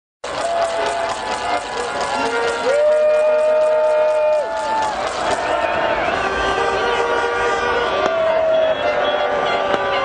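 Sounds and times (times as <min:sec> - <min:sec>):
celebrating crowd noise: 0:00.2 - 0:10.0
held horn tones: 0:00.3 - 0:10.0.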